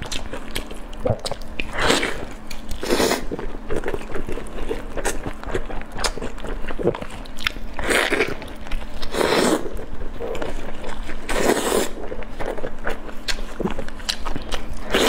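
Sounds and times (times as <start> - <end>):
chewing saucy meat: 0.0 - 15.0.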